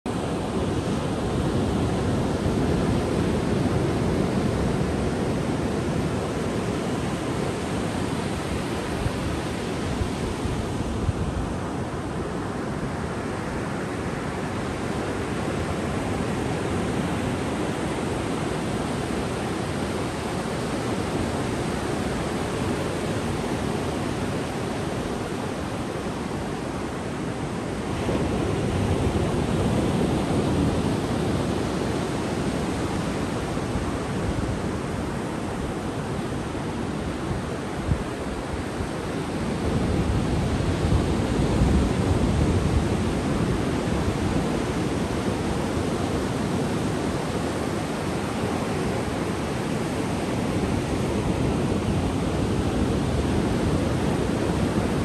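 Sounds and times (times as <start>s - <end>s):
ocean surf on beach: 0.1s - 55.0s.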